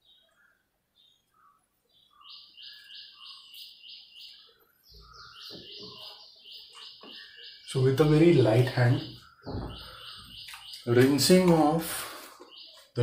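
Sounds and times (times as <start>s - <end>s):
bird high chirps: 0.0s - 13.0s.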